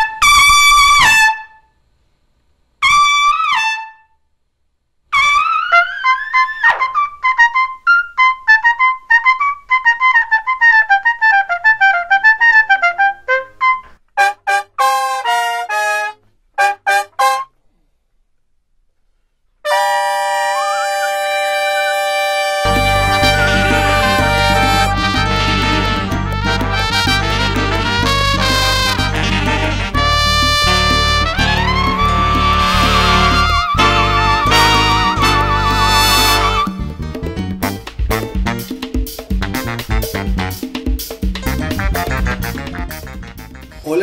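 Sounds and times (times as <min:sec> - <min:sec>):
solo trumpet playing: 0:00.0 - 0:01.6, 0:02.8 - 0:04.2, 0:05.1 - 0:17.6, 0:19.6 - 0:37.0, 0:41.4 - 0:43.9.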